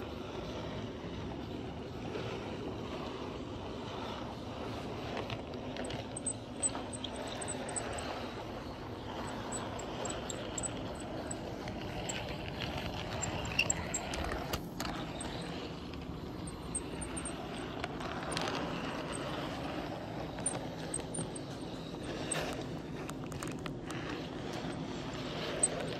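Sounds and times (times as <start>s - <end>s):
model train rolling on track: 4.2s - 25.9s.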